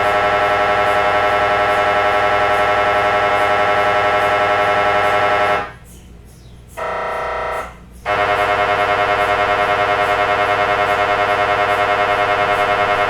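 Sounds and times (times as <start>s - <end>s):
mri scanner buzzing: 0.0s - 5.8s, 6.8s - 13.0s.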